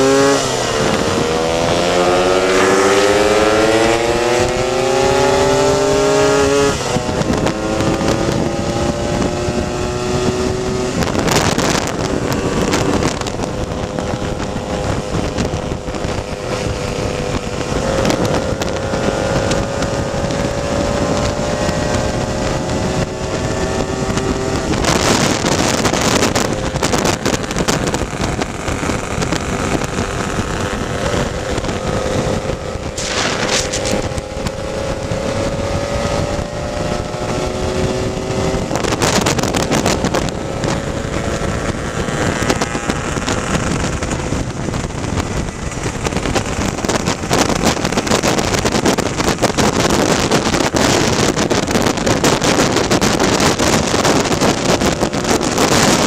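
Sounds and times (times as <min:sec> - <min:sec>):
wind noise on microphone: 0:00.0 - 0:56.0
scooter engine running: 0:06.6 - 0:56.0.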